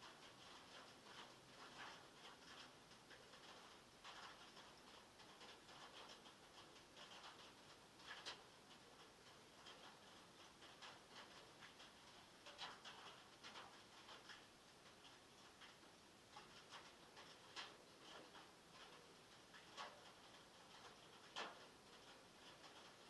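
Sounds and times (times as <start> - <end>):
rain on a metal roof: 0.0 - 23.0.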